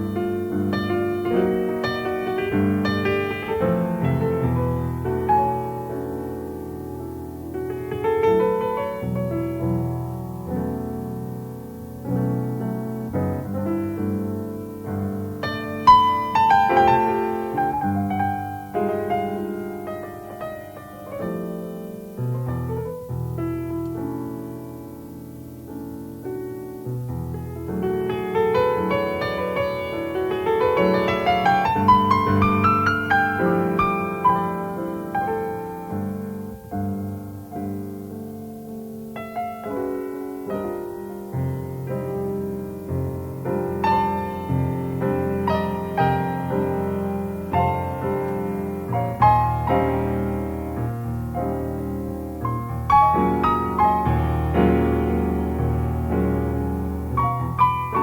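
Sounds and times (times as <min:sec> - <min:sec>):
jazz piano: 0:00.0 - 0:58.0.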